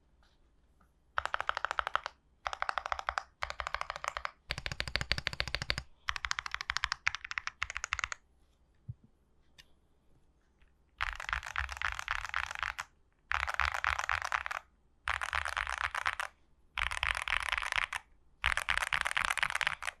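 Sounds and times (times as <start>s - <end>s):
mechanical keyboard typing: 1.2s - 8.2s, 11.0s - 20.0s.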